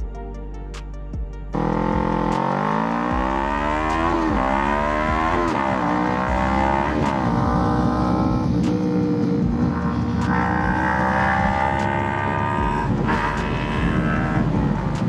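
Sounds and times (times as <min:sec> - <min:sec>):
motorcycle engine accelerating: 0:01.5 - 0:15.0.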